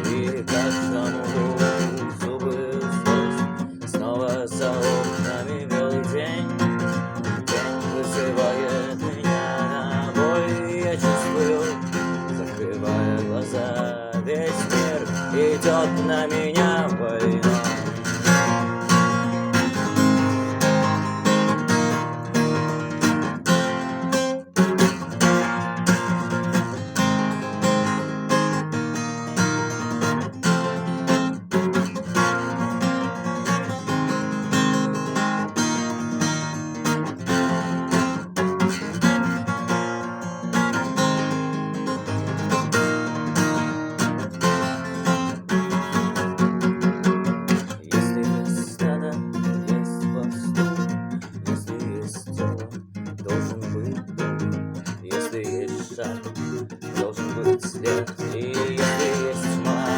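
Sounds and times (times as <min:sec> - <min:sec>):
acoustic guitar strummed: 0:00.0 - 0:59.9.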